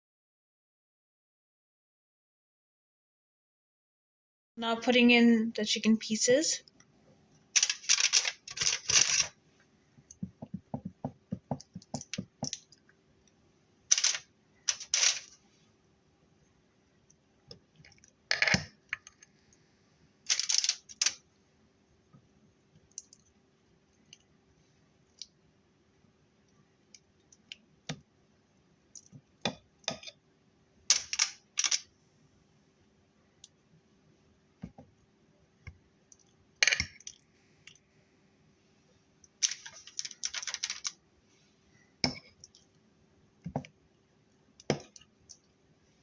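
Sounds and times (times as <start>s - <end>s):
faint steady hum: 4.6s - 46.0s.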